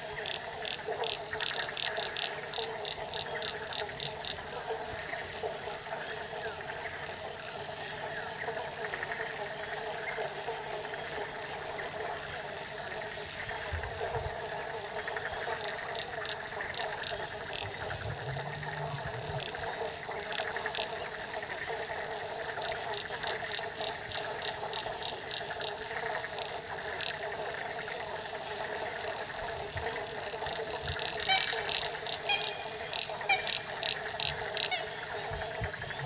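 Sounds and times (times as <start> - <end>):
frogs chorus: 0.0 - 36.0.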